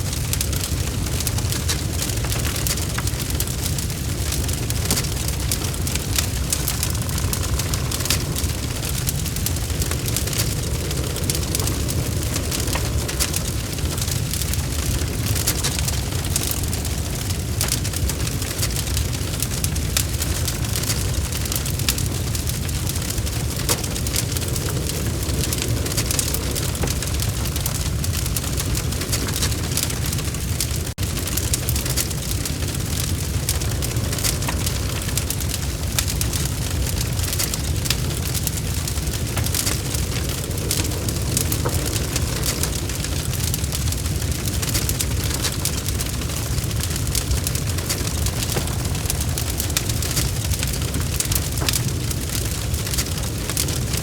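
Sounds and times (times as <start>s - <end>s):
logs crackling and popping: 0.0s - 54.0s
low fire rumble: 0.0s - 54.0s.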